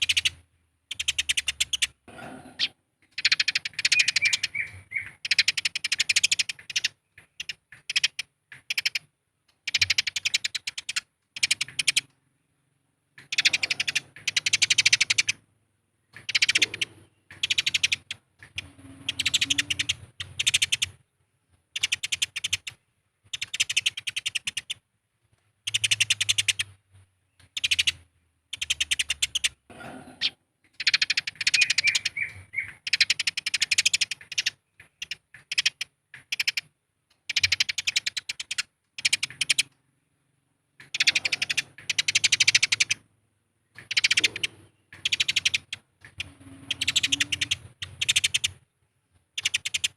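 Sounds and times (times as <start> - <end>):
sparrows harsh chirping: 0.0 - 21.1, 21.7 - 24.8, 25.6 - 48.7, 49.3 - 49.9.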